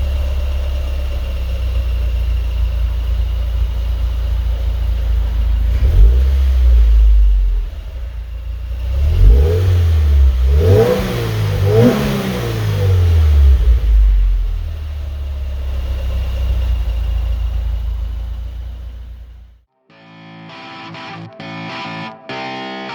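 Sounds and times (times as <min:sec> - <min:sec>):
car exhaust revving: 0:00.0 - 0:19.6.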